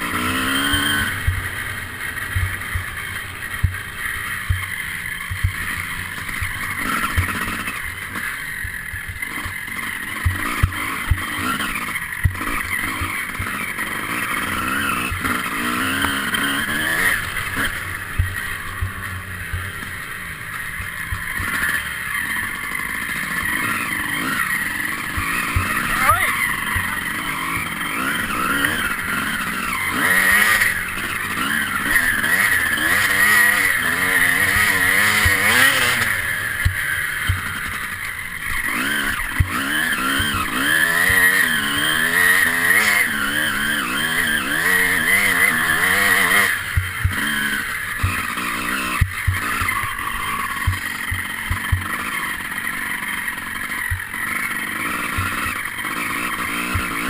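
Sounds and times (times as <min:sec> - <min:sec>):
motorcycle knocking over rough ground: 0:00.0 - 0:14.4, 0:15.0 - 0:57.0
motorcycle engine revving: 0:00.0 - 0:57.0.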